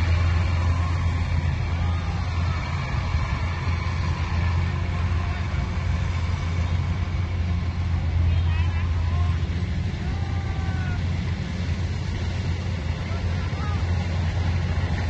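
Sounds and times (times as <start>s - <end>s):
machine engine humming: 0.0s - 15.0s.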